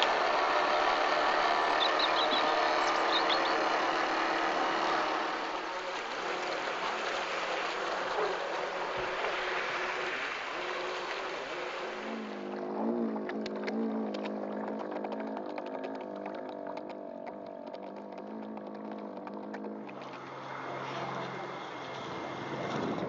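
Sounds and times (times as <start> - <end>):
model boat motor whine: 0.0 - 23.0
rushing water: 0.0 - 23.0.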